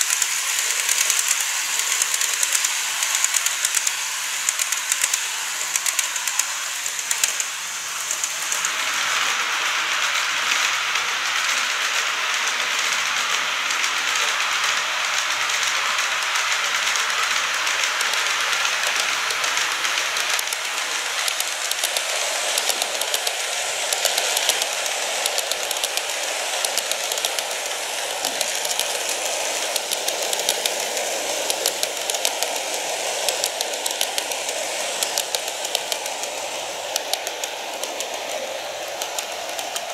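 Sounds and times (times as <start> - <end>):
model train motor whirring: 0.0 - 39.9
wheels clicking over rail joints: 0.0 - 39.9.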